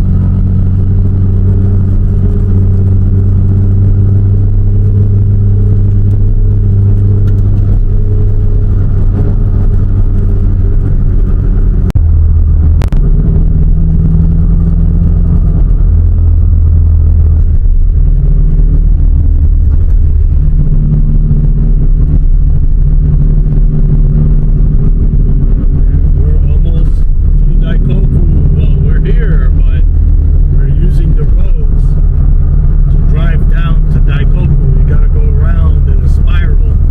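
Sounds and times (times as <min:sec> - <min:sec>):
car engine droning: 0:00.0 - 0:36.9.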